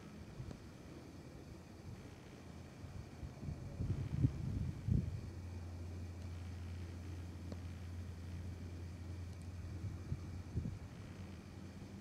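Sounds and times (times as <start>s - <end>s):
aircraft machinery hum: 0.0s - 12.0s
faint hiss: 0.0s - 12.0s.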